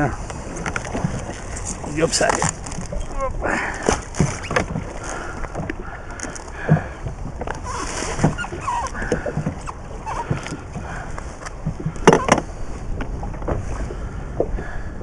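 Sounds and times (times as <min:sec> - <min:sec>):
low rumble of water and wind: 0:00.0 - 0:15.0.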